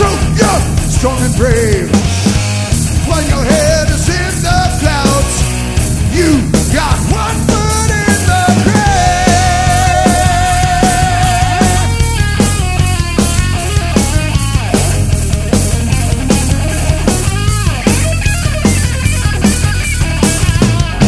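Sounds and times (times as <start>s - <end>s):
punk rock band playing: 0.0s - 21.0s
sliding lead guitar line: 0.0s - 21.0s.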